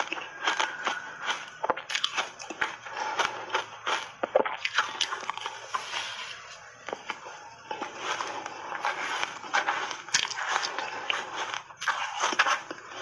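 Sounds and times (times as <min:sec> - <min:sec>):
chewing crunchy shaved ice: 0:00.0 - 0:13.0.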